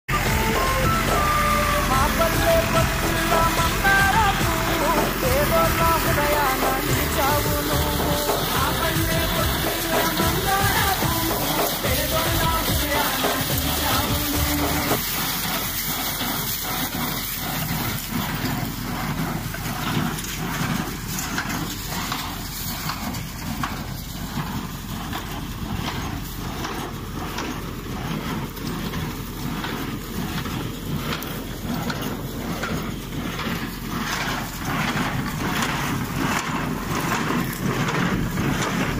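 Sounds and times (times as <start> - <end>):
tractor engine running: 0.0 - 38.9
baler mechanism clattering: 1.9 - 38.9.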